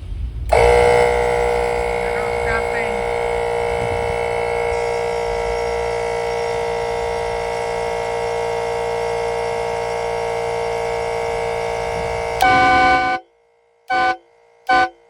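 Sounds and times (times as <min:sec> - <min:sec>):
train horn long blast: 0:00.5 - 0:15.0.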